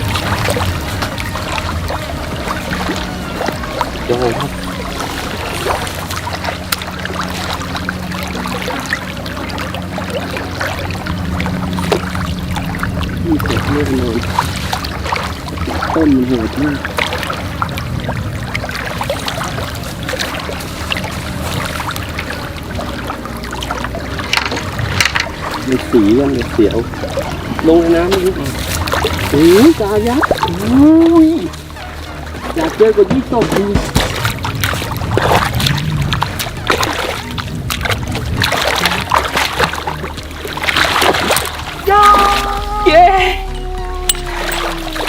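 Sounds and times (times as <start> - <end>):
steady low rumble: 0.0 - 45.0
water splashing around a boat: 0.0 - 45.0.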